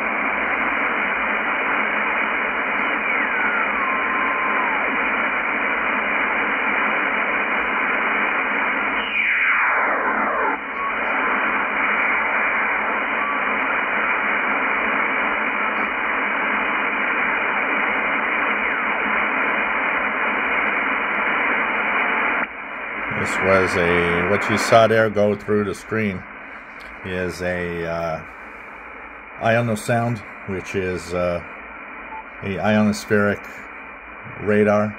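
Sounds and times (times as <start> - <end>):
shortwave radio hiss: 0.0 - 34.9.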